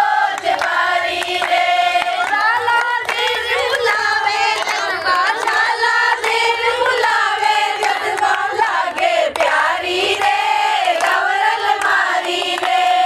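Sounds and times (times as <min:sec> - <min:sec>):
group of women singing folk song: 0:00.0 - 0:13.0
hand claps: 0:00.0 - 0:13.0.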